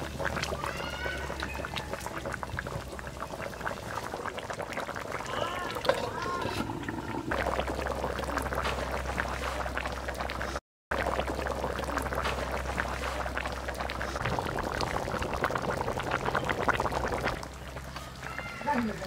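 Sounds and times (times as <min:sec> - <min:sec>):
curry bubbling at a simmer: 0:00.0 - 0:19.0.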